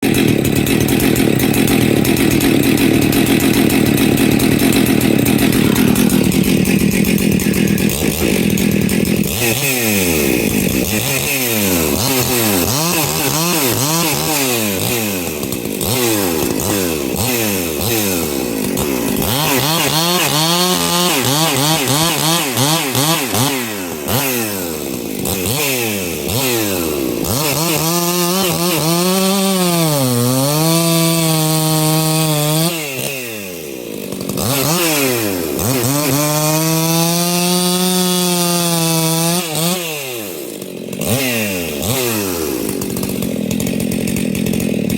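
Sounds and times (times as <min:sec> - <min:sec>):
chainsaw revving and cutting: 0:00.0 - 0:44.9.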